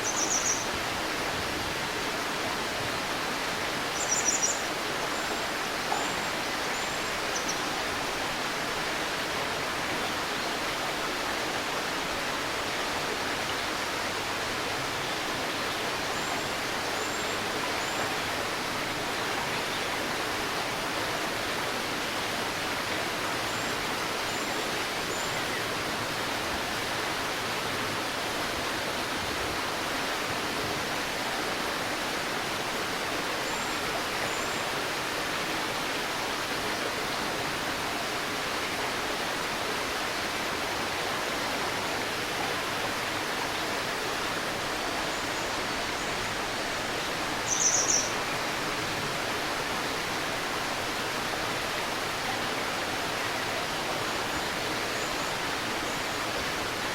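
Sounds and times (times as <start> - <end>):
river babbling over stones: 0.1 - 56.9.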